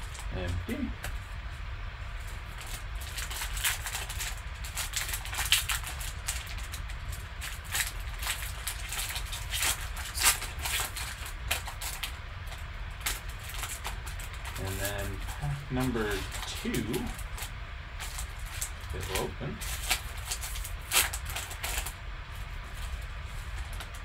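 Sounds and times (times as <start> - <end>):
foil wrapper crinkling: 2.1 - 24.0.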